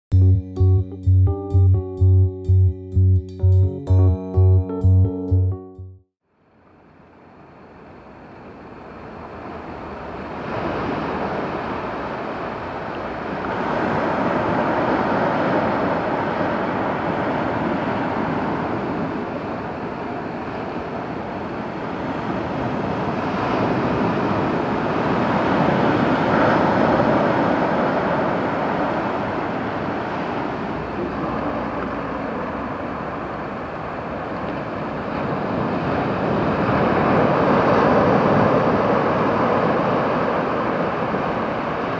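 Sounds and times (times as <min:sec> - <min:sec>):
waves rushing onto shore: 0:07.3 - 0:41.9.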